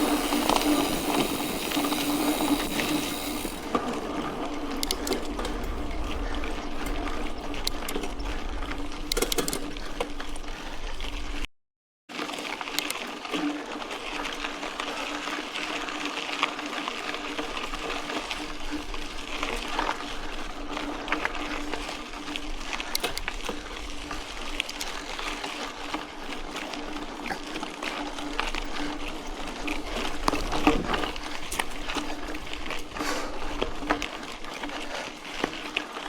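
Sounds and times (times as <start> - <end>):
bike rattles and clicks: 0.0 - 11.4, 12.2 - 36.0
bike tyres on dirt: 0.0 - 11.4, 12.1 - 36.0.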